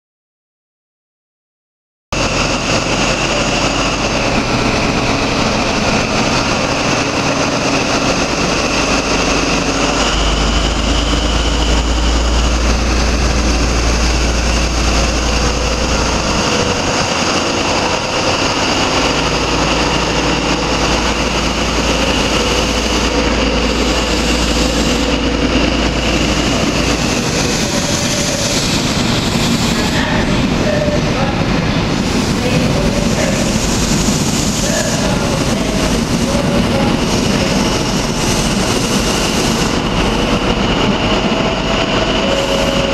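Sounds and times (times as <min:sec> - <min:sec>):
diesel train engine running hard: 0:02.1 - 0:42.9
train coaches rolling past: 0:02.2 - 0:42.9.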